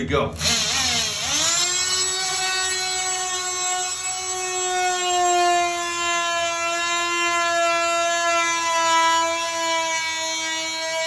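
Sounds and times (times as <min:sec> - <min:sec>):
oscillating multi-tool cutting wood: 0:00.4 - 0:11.0.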